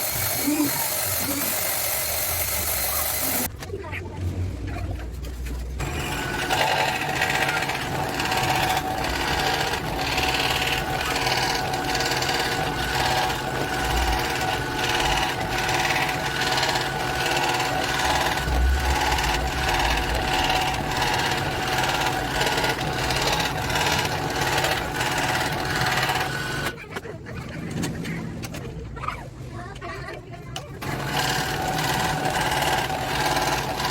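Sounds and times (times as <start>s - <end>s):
scroll saw cutting plastic pipe: 0.0s - 3.5s, 5.8s - 26.8s, 30.8s - 33.9s.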